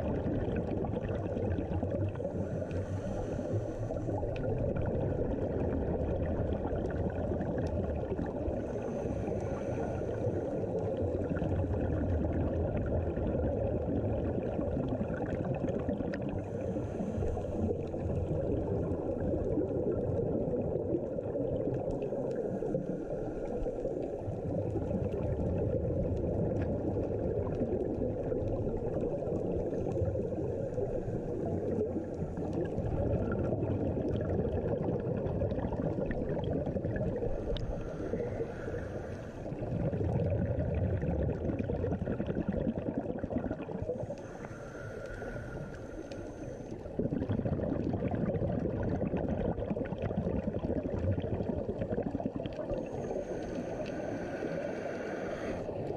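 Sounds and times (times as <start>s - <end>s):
hissing bubble swells: 0.0s - 55.9s
muffled underwater rumble: 0.0s - 55.9s.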